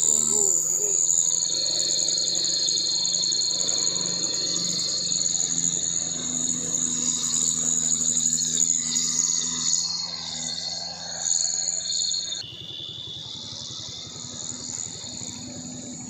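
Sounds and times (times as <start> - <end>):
engine running low: 0.0 - 16.0
insects chirring: 0.0 - 16.0.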